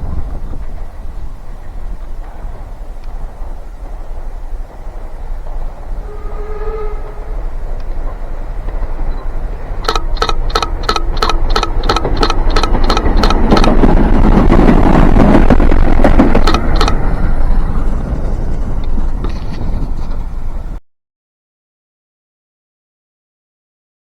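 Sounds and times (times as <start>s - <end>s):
train rushing past: 0.0s - 20.8s
train wheels clicking: 0.0s - 20.8s.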